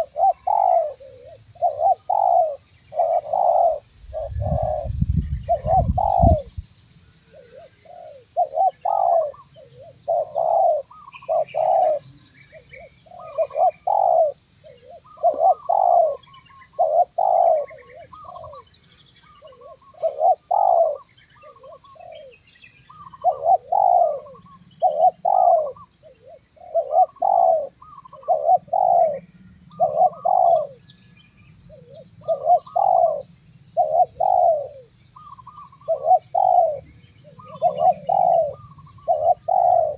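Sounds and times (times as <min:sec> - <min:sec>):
doves cooing: 0:00.0 - 0:06.5, 0:07.1 - 0:30.9, 0:31.7 - 0:39.9
small birds chirping: 0:00.0 - 0:39.9.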